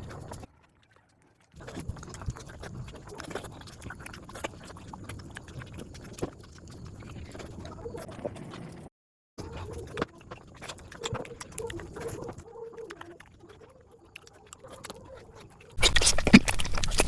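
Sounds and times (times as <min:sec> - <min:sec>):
wet chewing and smacking: 0:00.0 - 0:17.0.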